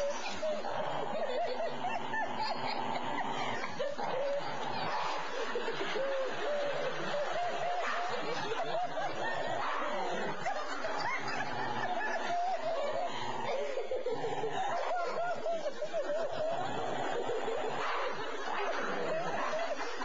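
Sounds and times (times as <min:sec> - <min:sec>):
dog growling: 0:00.0 - 0:20.0.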